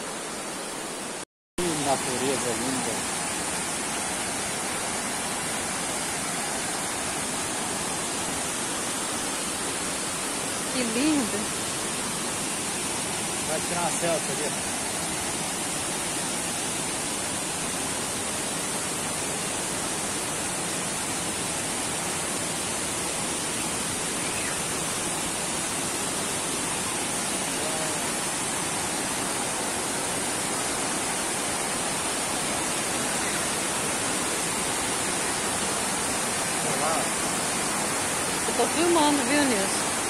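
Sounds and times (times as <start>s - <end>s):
river rapids over rocks: 0.0s - 40.0s
waterfall rushing: 0.0s - 40.0s.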